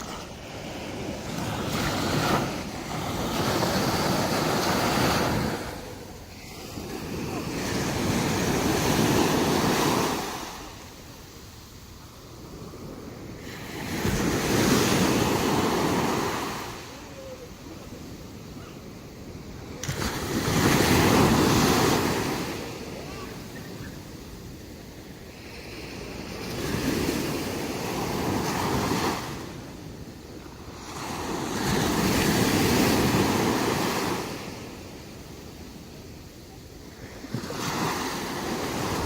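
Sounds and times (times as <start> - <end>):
sea surf breaking on beach: 0.0 - 39.0.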